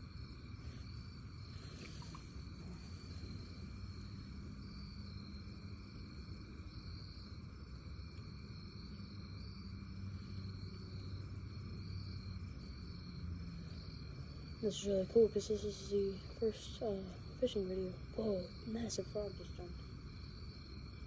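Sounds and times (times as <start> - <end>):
continuous low rumble: 0.0 - 21.0
insects chirring: 0.0 - 21.0.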